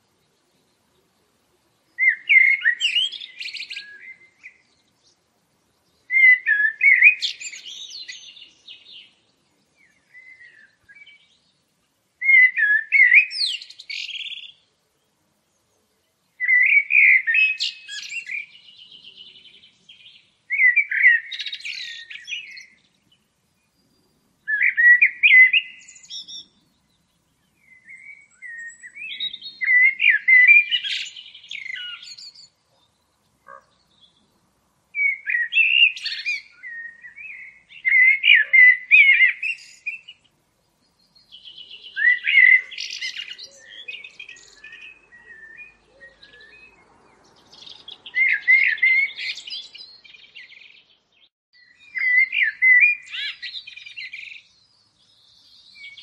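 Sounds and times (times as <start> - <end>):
songbird twittering: 0.0 - 14.7, 16.3 - 56.0.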